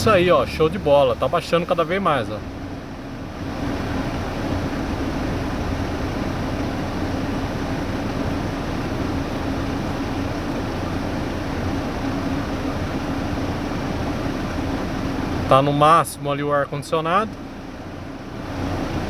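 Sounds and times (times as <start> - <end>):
air conditioning air rushing: 0.0 - 19.0
constant low hum: 0.0 - 19.0.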